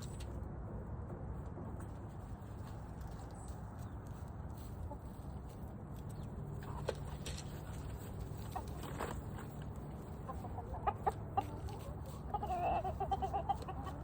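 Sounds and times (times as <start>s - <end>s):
chickens clucking: 1.4s - 14.0s.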